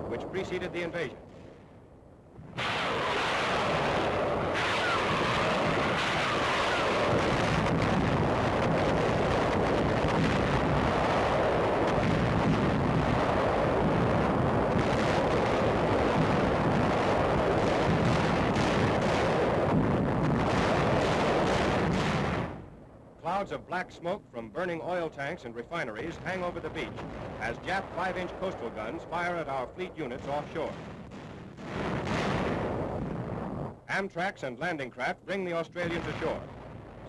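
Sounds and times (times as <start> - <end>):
bombardment gunfire and explosions: 0.0 - 23.9, 24.6 - 34.4, 35.4 - 37.0.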